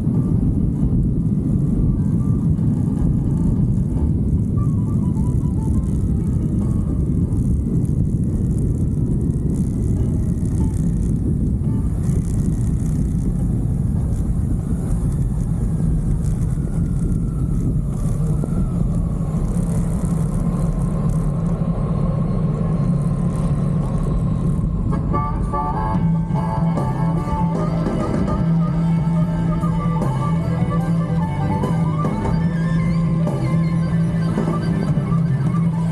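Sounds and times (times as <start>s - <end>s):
faint whine: 0.0s - 35.9s
motorcycle engine drone: 0.0s - 35.9s
road noise: 0.0s - 35.9s
wind rushing: 0.0s - 35.9s.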